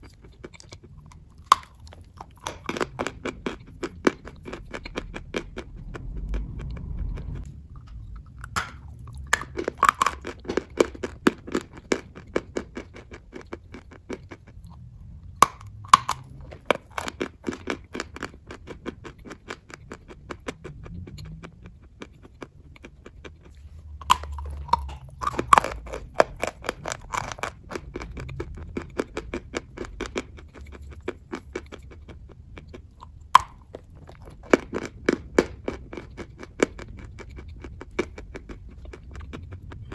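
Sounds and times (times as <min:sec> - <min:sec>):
chalk being chewed: 0:00.0 - 0:39.9.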